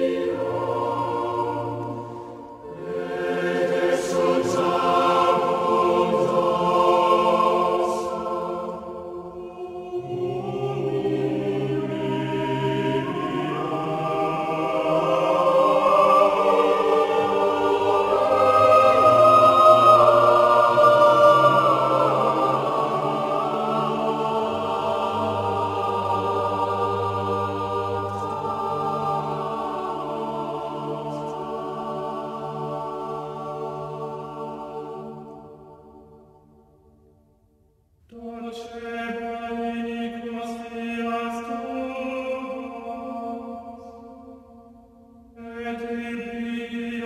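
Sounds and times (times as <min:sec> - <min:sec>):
choir holding long chords: 0:00.0 - 0:37.1, 0:38.1 - 0:47.0.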